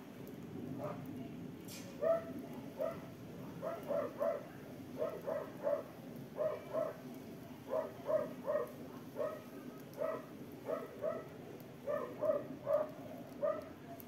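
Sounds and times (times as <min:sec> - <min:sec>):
dog barking: 0:00.8 - 0:01.0, 0:02.0 - 0:07.0, 0:07.7 - 0:13.8.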